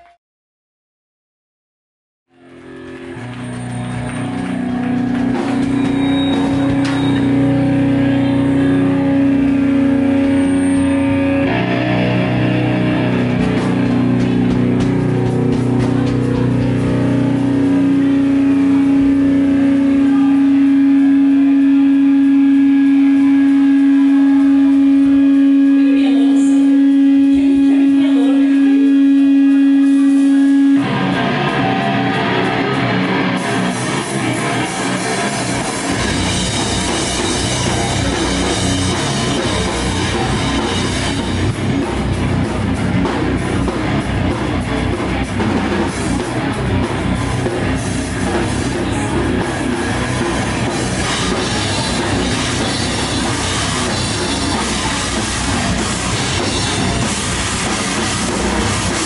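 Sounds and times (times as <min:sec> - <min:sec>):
held guitar tone: 0:02.4 - 0:59.0
live heavy rock band: 0:02.4 - 0:59.0.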